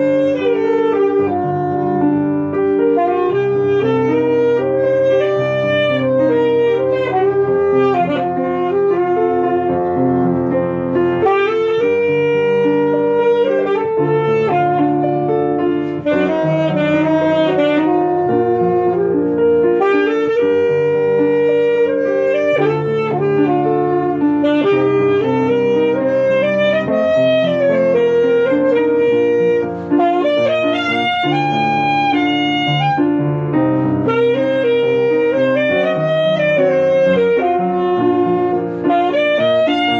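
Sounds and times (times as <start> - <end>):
alto saxophone melody: 0.0 - 39.9
grand piano accompaniment: 0.0 - 39.9.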